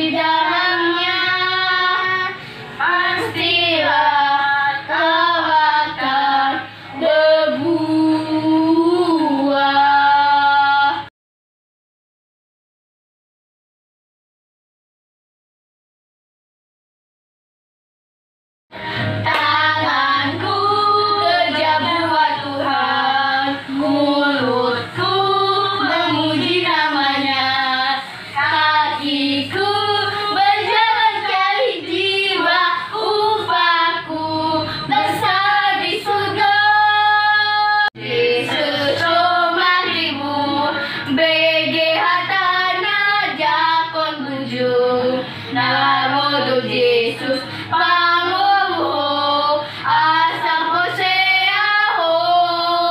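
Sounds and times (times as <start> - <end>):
children singing together: 0.0 - 11.1, 19.0 - 52.9.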